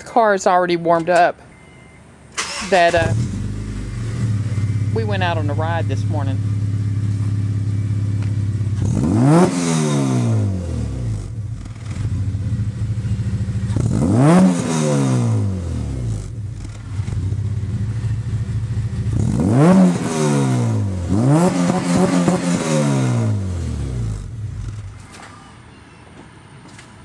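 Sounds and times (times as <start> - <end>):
car exhaust idling and revving: 3.0 - 25.1.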